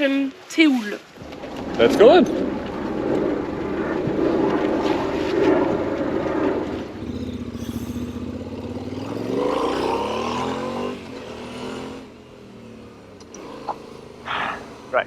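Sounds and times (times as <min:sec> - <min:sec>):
motorcycle engine accelerating: 0:01.2 - 0:15.0.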